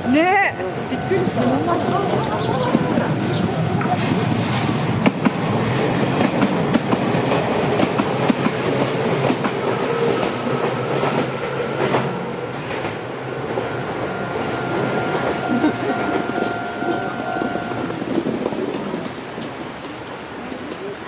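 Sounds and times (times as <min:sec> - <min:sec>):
train rumble: 0:00.0 - 0:21.0
train wheels clacking over rail joints: 0:01.3 - 0:13.9, 0:15.0 - 0:21.0.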